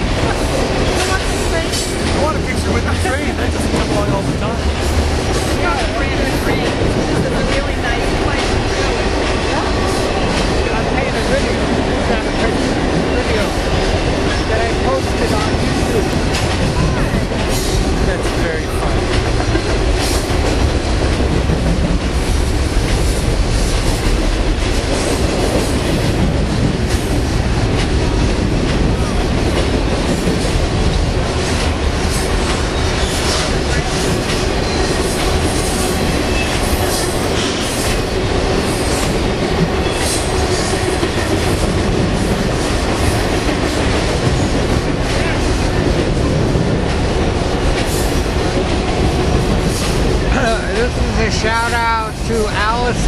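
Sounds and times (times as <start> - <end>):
train wheels rushing on rail: 0.0 - 53.0.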